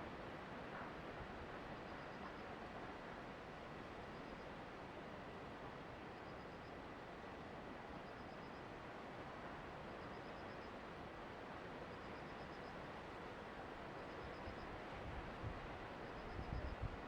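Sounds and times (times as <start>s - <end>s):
rain: 0.0s - 17.0s
wind: 0.0s - 17.0s.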